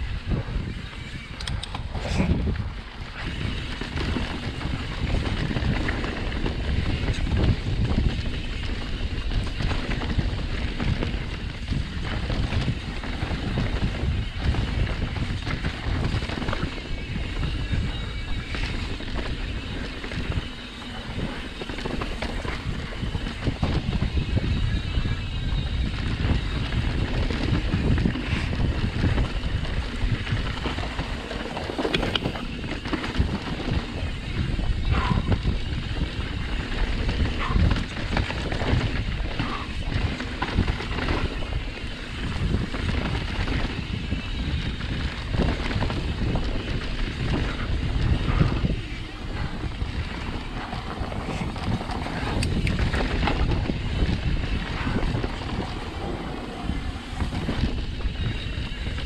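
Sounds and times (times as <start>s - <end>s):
bike jolting on dirt trail: 0.0s - 59.0s
wind on microphone: 0.0s - 59.0s.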